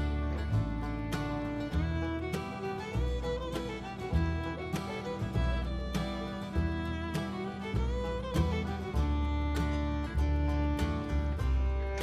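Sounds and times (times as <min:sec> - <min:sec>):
music with beat and plucked guitar: 0:00.0 - 0:12.0.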